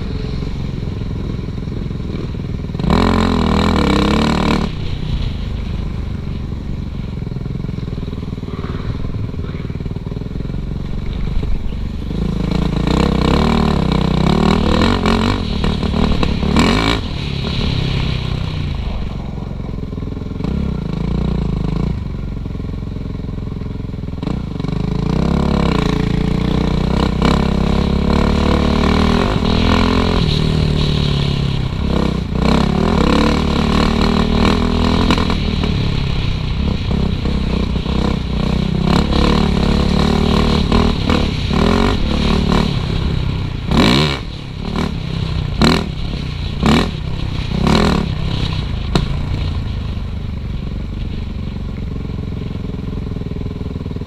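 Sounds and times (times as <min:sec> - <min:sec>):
dirt bike engine revving: 0:00.0 - 0:22.0, 0:24.2 - 0:49.4.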